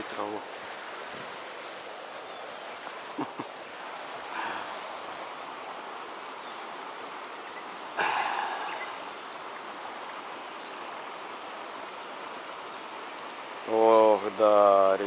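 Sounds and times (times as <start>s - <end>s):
water rushing: 0.0s - 15.0s
wind: 0.0s - 15.0s.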